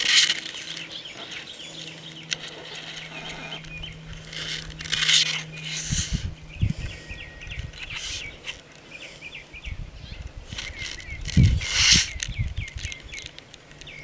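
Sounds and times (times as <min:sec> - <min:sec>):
rustling noise: 0:00.0 - 0:08.9, 0:10.1 - 0:14.0
small birds chirping: 0:00.0 - 0:14.0
steady low hum: 0:00.0 - 0:14.0.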